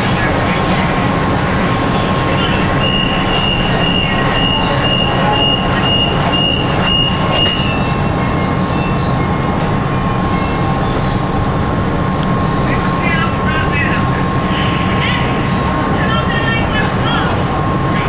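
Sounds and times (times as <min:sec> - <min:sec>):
train rumble with hum: 0:00.0 - 0:18.0.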